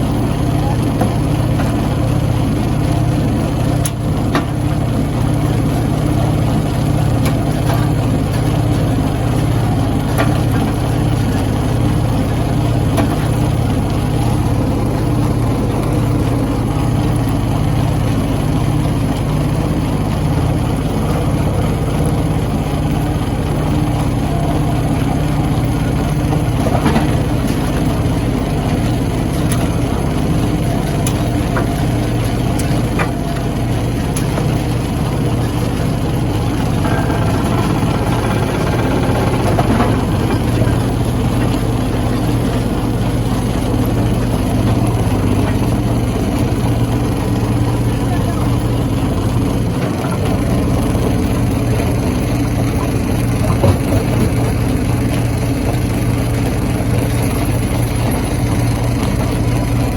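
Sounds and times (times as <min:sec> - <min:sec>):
stone crushing machine humming: 0:00.0 - 0:59.9.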